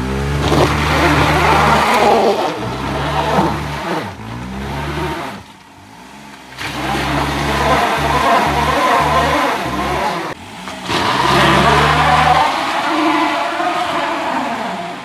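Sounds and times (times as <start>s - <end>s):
small car engine revving: 0.0s - 15.0s.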